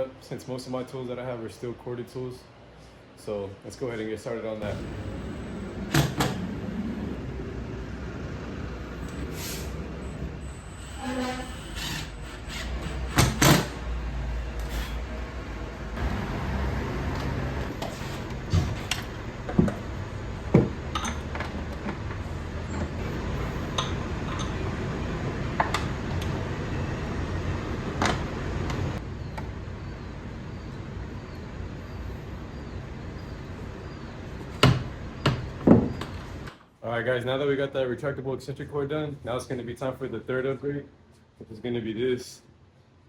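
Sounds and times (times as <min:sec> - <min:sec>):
low background hum: 0:00.0 - 0:43.0.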